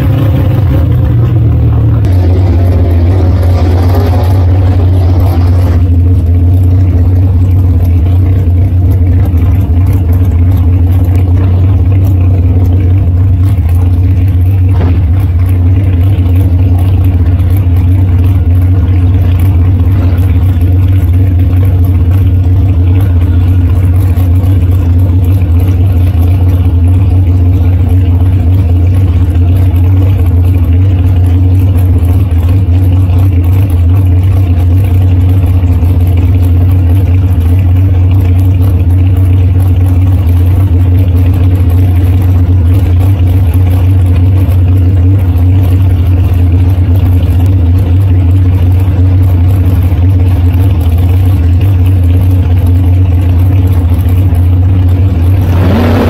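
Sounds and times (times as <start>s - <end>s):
dragster engine idling: 0.0s - 56.0s.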